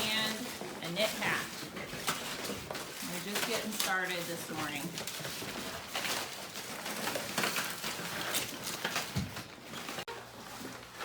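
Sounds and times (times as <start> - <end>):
rustling and clatter of packing: 0.0 - 11.0.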